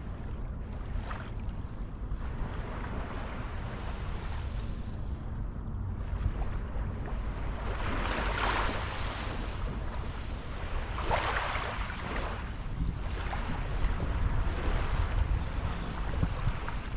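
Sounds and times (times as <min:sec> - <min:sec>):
wind rumbling on microphone: 0:00.0 - 0:16.9.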